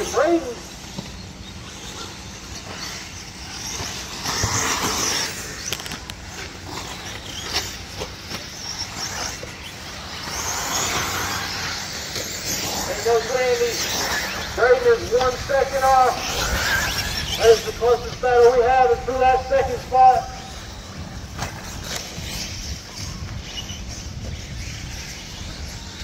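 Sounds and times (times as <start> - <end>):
electric toy cars racing on dirt: 0.0 - 26.0.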